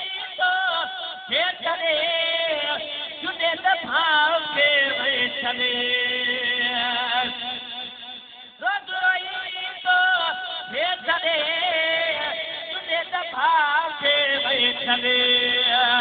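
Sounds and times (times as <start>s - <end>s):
man singing a chant: 0.0s - 16.0s.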